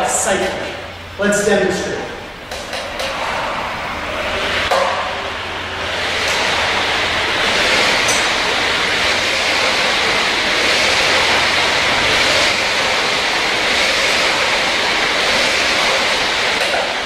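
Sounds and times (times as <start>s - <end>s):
flywheel spinning with whoosh: 3.0s - 17.0s.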